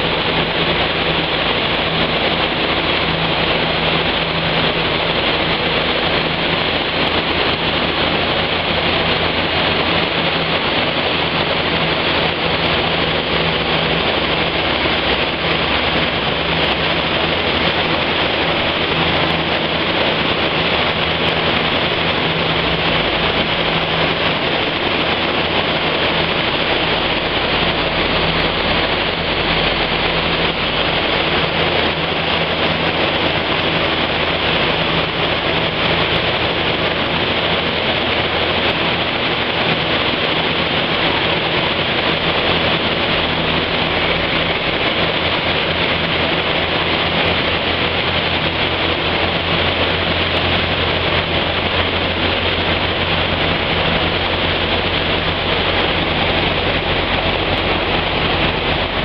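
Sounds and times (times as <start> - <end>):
car engine humming steadily: 0.0 - 59.0.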